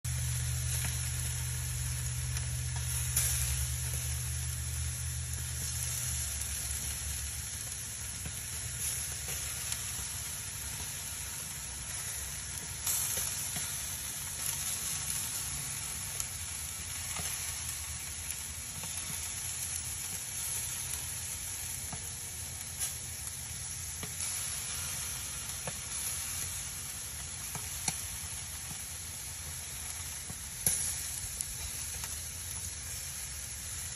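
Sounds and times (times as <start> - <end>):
charcoal hissing and crackling: 0.0 - 33.9
low steady hum: 0.1 - 33.9.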